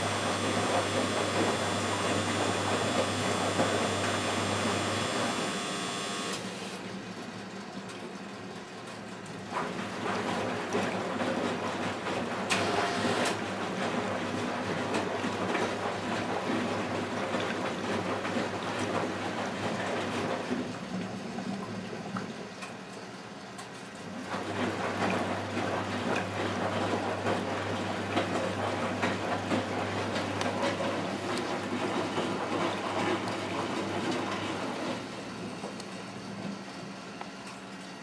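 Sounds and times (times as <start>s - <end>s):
water sloshing in drum: 0.0s - 5.4s, 9.0s - 23.1s, 23.7s - 36.6s
washing machine hum: 0.0s - 38.0s.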